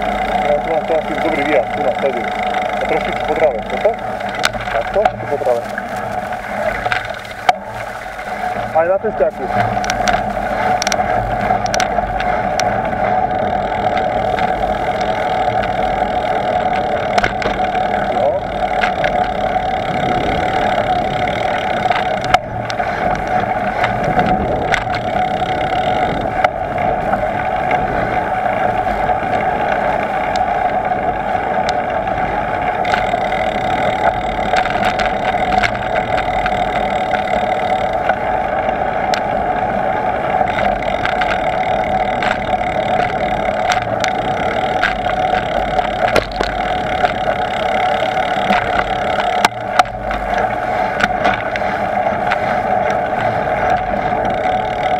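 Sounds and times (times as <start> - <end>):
bicycle tyre noise: 0.0 - 54.9
clicks and knocks from bumps: 0.2 - 12.8, 13.7 - 26.6, 32.8 - 38.2, 40.4 - 54.9.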